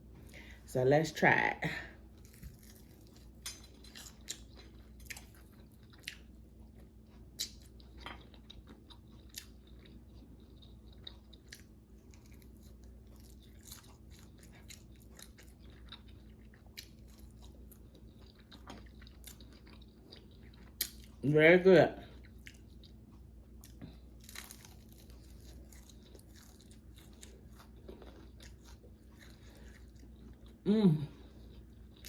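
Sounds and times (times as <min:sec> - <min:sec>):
crunchy chewing: 0:02.2 - 0:21.2, 0:22.1 - 0:32.0.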